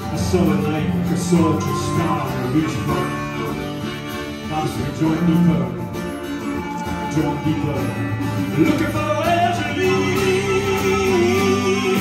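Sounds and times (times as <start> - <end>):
drums and percussion: 0.0 - 12.0
strummed acoustic guitars: 0.0 - 12.0.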